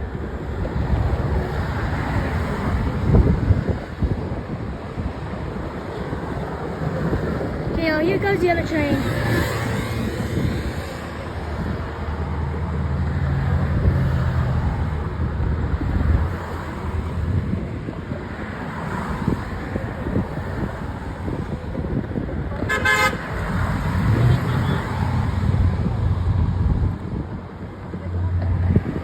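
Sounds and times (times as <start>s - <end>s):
diesel locomotive rumbling: 0.0s - 29.0s
wind noise on microphone: 0.0s - 29.0s.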